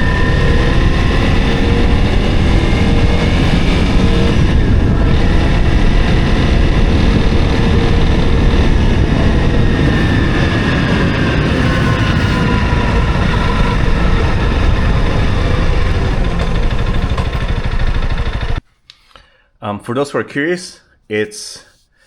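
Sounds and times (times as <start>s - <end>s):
motorcycle engine running: 0.0s - 18.6s
wind rush on microphone: 0.0s - 18.6s.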